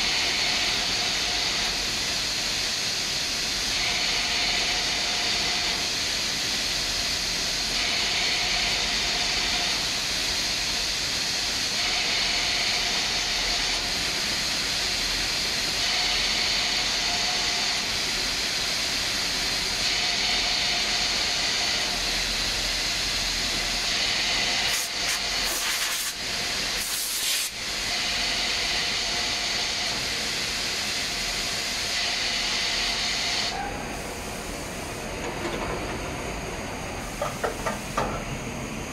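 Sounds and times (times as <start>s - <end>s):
steady machine hum: 0.0s - 38.9s
compressed air hissing: 0.3s - 35.0s.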